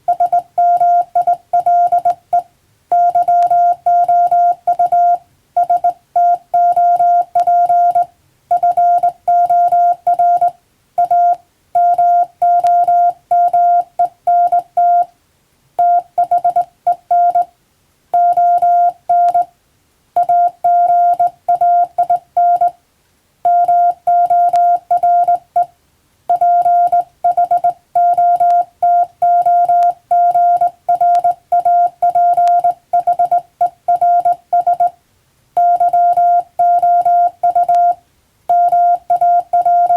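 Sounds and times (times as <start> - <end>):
morse code beeps: 0.0 - 15.1, 15.8 - 17.5, 18.2 - 19.5, 20.2 - 22.8, 23.5 - 25.7, 26.3 - 35.0, 35.6 - 39.9.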